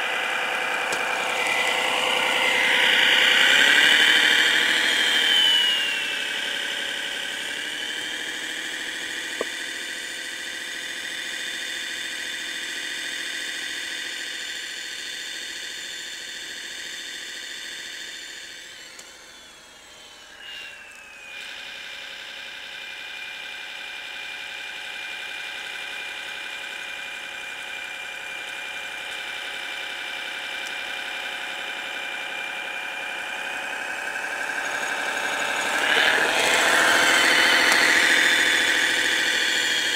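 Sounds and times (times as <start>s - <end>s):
electric drive whine: 0.0s - 39.9s
simulated engine sound: 0.0s - 39.9s.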